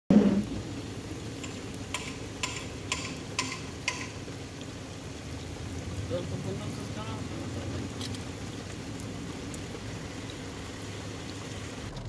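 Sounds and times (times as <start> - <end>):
rain on wet pavement: 0.1 - 12.0.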